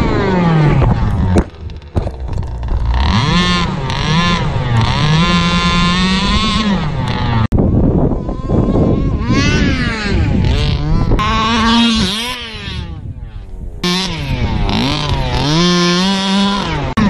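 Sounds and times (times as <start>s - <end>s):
rc buggy engine revving: 0.0s - 17.0s
wind noise: 0.0s - 17.0s.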